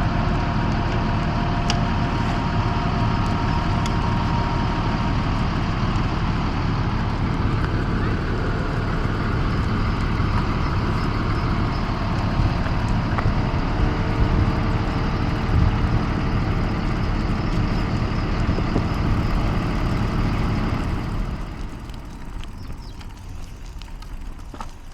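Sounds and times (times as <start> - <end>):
bus engine rumbling: 0.0 - 24.9.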